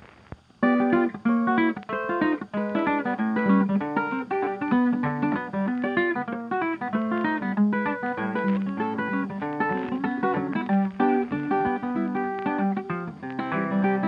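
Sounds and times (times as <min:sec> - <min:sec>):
acoustic guitar plucking: 0:00.5 - 0:14.0.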